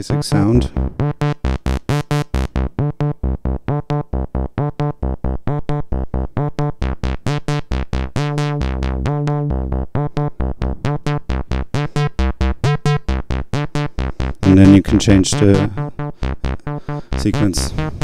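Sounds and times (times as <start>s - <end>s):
held synth notes: 0.0s - 18.0s
plucked synth notes: 0.0s - 18.0s.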